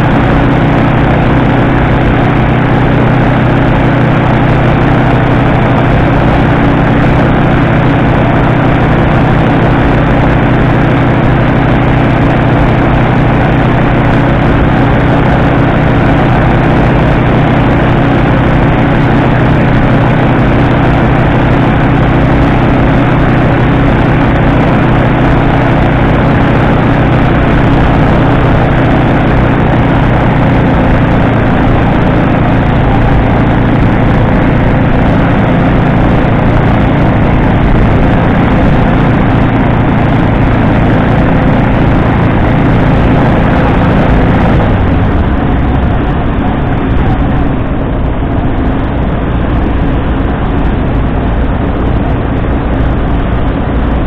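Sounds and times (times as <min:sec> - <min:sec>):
microlight engine and propeller droning: 0:00.0 - 0:54.0.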